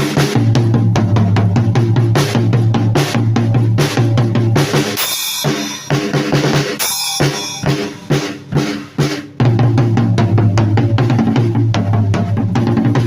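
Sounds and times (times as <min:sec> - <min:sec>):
drum kit playing: 0:00.0 - 0:13.0.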